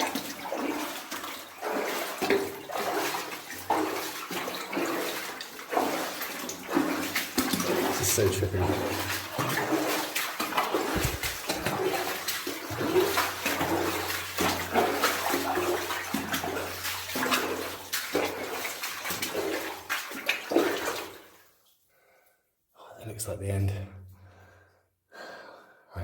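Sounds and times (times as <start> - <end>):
water splashing from wading: 0.0 - 21.5.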